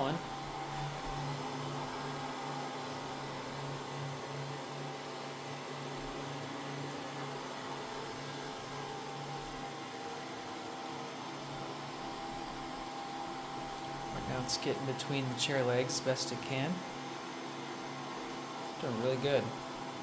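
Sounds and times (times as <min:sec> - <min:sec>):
robot vacuum whirring: 0:00.0 - 0:20.0.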